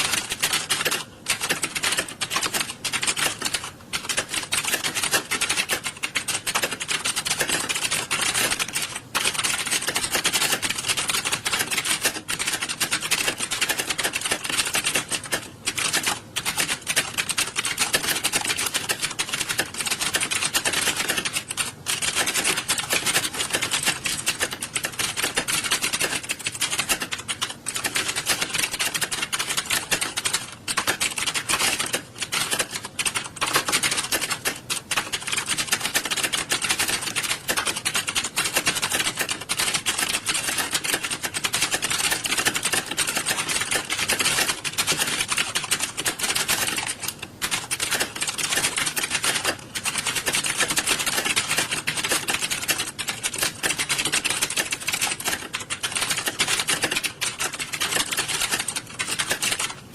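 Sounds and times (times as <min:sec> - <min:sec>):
many keyboards clattering: 0:00.0 - 0:59.9.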